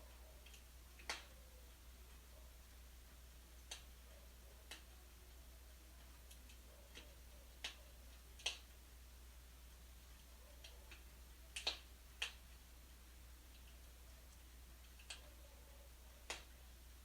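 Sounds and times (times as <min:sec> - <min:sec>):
faint low hum: 0:00.0 - 0:17.0
wood fire crackling: 0:00.0 - 0:17.0.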